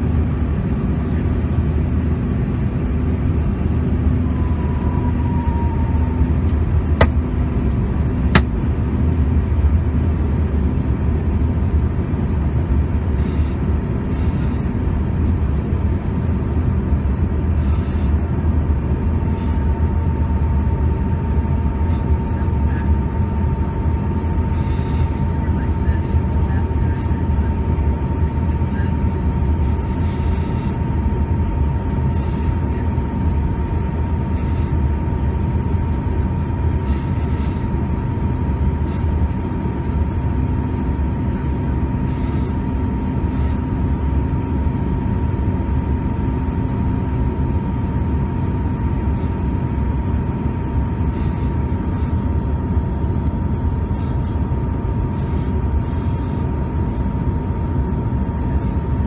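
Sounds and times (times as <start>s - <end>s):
constant whine-like tone: 0.0s - 59.0s
jet engines droning: 0.0s - 59.0s.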